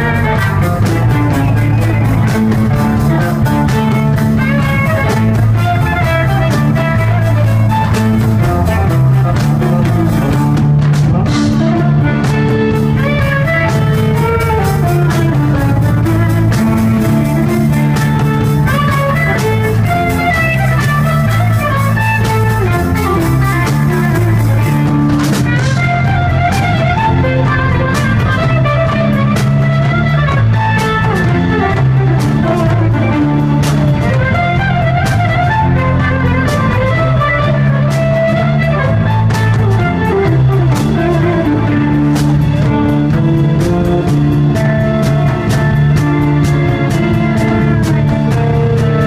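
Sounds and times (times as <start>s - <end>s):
bass line: 0.0s - 49.0s
folk-rock band playing: 0.0s - 49.0s
guitar and fiddle melody: 0.0s - 49.0s.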